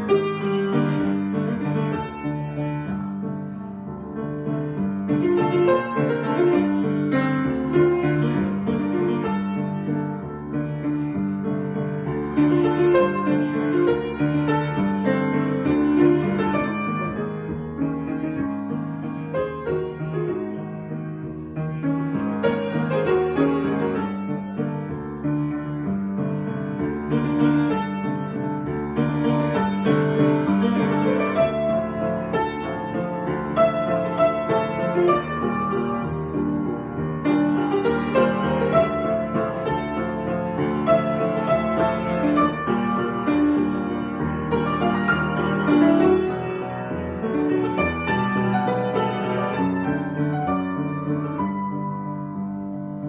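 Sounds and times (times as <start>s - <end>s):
improvised piano music: 0.0s - 53.0s.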